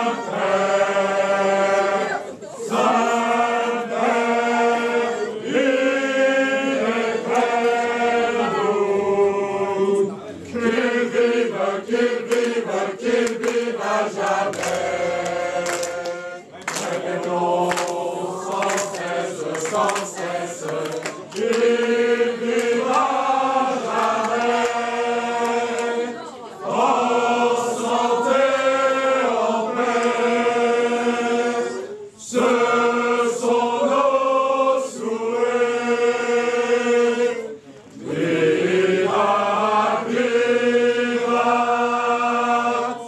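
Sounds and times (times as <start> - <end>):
men singing together unaccompanied: 0.0 - 43.0.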